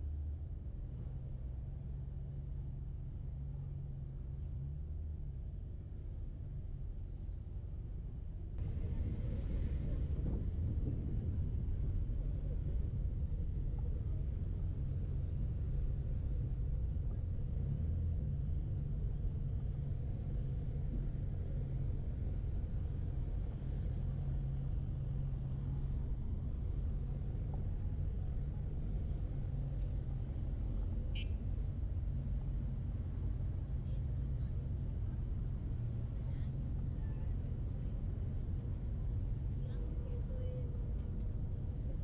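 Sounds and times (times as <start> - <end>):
city street traffic rumble: 0.0 - 42.0.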